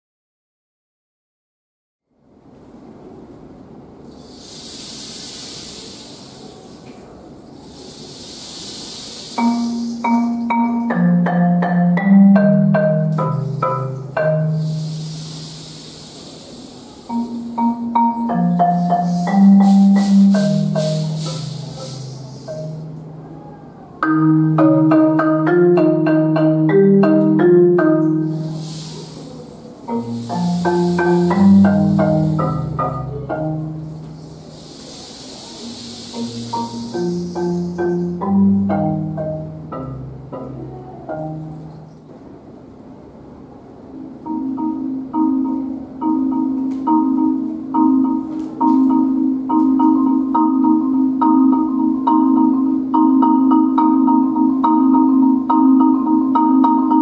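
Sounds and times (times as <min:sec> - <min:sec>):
marimba played with mallets: 0:07.8 - 0:42.1, 0:44.1 - 0:57.0.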